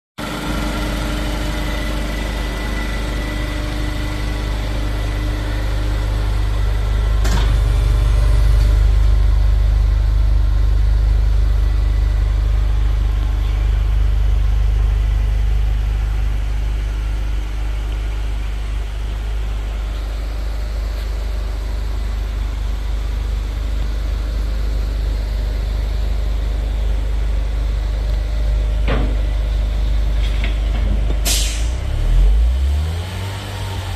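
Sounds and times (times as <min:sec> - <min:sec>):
car engine idling: 0:00.2 - 0:33.9.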